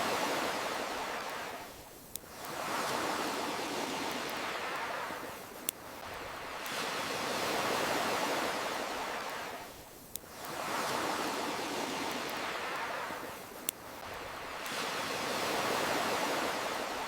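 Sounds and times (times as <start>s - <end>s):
ocean surf washing in: 0.0s - 17.0s.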